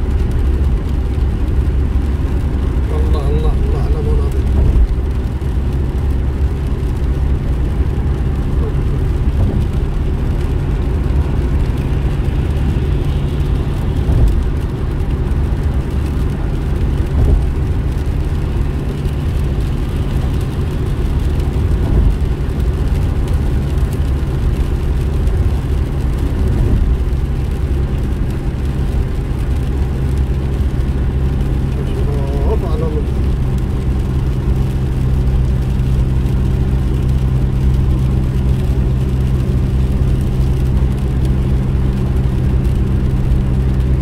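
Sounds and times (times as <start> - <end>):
car engine rumble: 0.0 - 44.0.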